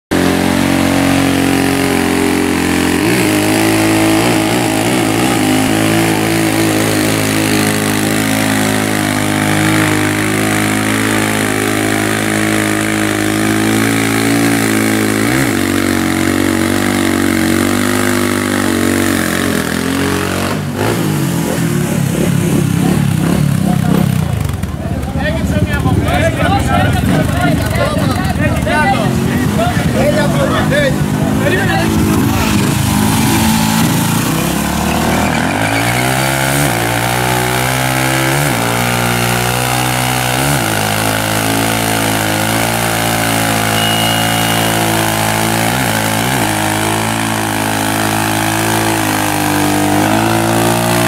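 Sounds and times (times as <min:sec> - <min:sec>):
motorcycle engine at high revs: 0:00.0 - 0:51.0.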